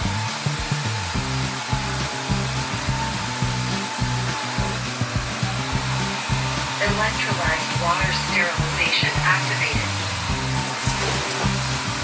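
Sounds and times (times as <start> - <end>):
background music with bass line: 0.0 - 12.0
robot vacuum whooshing: 2.3 - 12.0.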